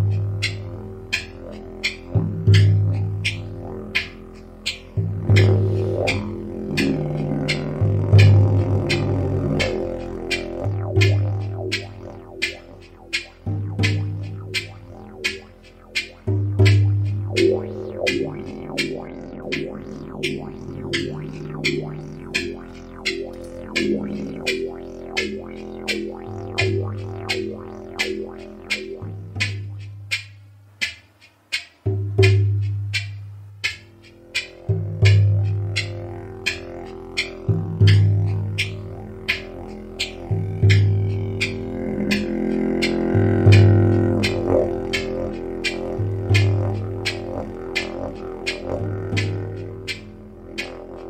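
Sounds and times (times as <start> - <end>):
didgeridoo drone: 0.0 - 30.4, 32.2 - 51.0
drum beating steady pulse: 0.0 - 51.0.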